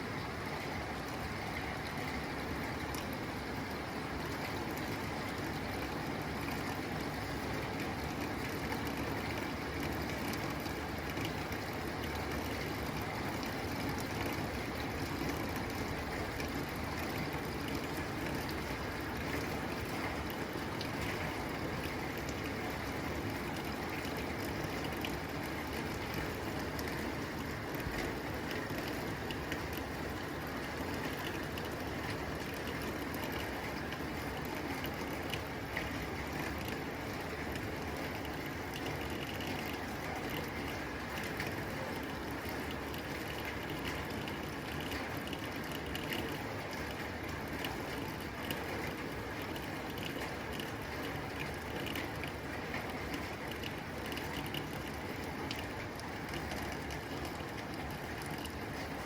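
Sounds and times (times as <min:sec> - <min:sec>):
rain drumming on a tin roof: 0:00.0 - 0:59.0.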